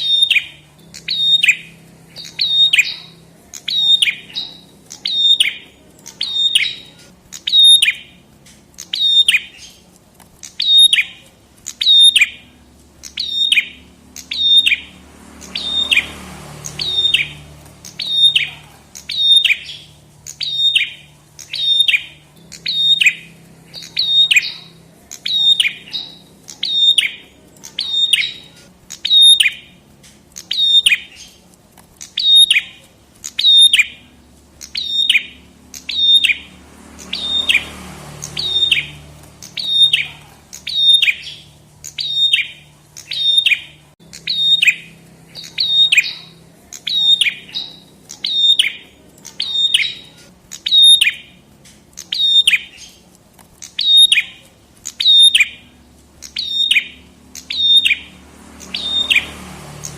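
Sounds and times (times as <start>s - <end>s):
songbird sharp high chirp: 0.0s - 29.8s, 30.4s - 51.4s, 52.0s - 59.9s.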